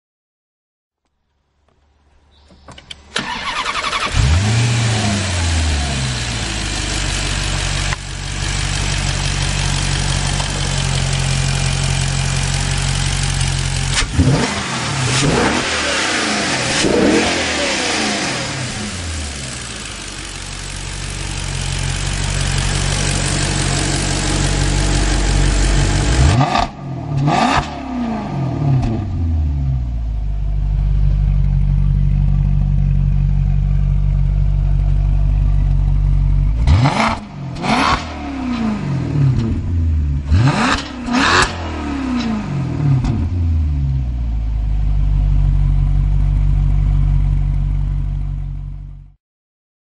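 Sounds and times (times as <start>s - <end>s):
car engine starting and idling: 1.6s - 49.1s.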